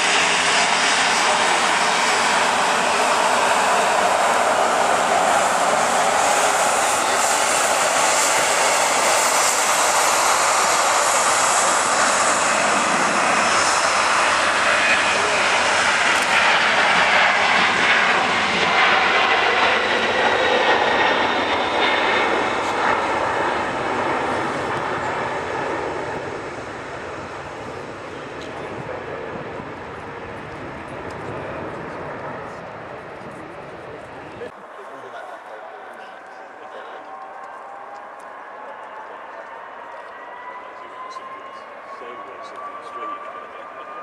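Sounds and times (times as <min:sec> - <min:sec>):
jet engines taxiing: 0:00.0 - 0:44.0.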